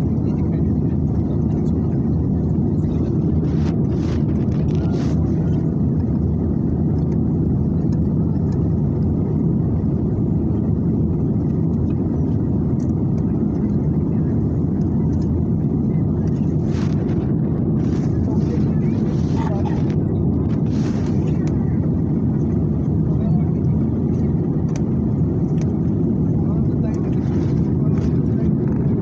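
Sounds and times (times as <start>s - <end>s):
aeroplane cabin engine rumble: 0.0s - 29.0s.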